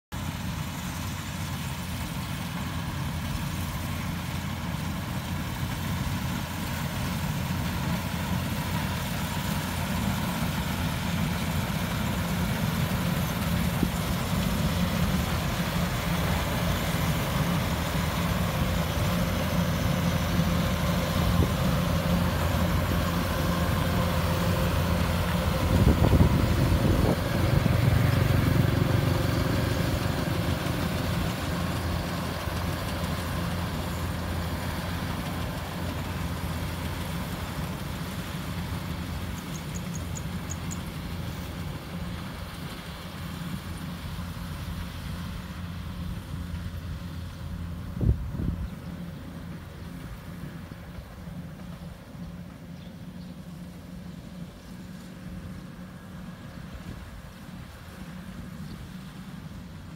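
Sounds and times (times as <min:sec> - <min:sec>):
combine harvester running: 0:00.1 - 0:59.9.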